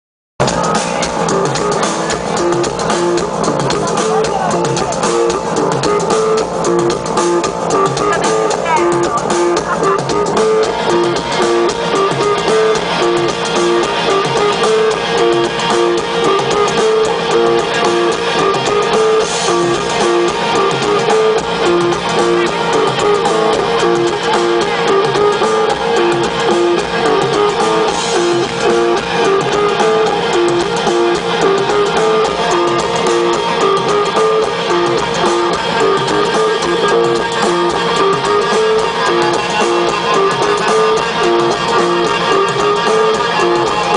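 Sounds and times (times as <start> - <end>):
instrumental guitar band music: 0.4 - 43.9.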